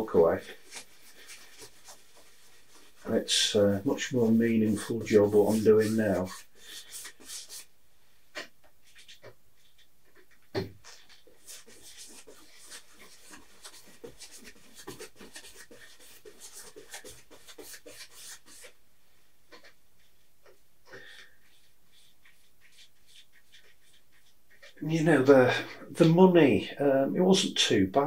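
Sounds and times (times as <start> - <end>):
brush scrubbing paint on canvas: 0.0 - 25.7.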